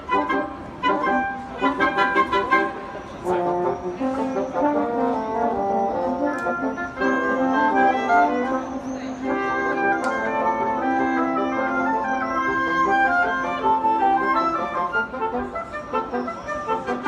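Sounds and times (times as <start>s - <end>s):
wind ensemble playing chords: 0.0s - 17.0s.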